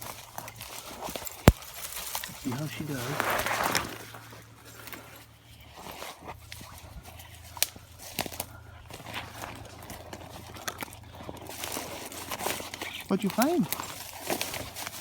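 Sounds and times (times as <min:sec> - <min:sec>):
twigs snapping: 0:00.0 - 0:05.0, 0:05.9 - 0:15.0
footsteps through dry leaves: 0:00.0 - 0:15.0.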